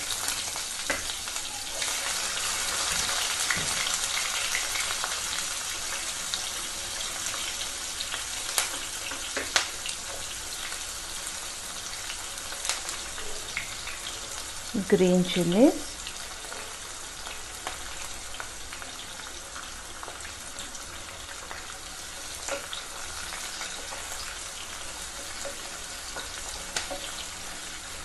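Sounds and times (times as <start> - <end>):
oil popping and crackling: 0.0 - 14.2, 16.2 - 28.0
onions sizzling in hot oil: 0.0 - 28.0.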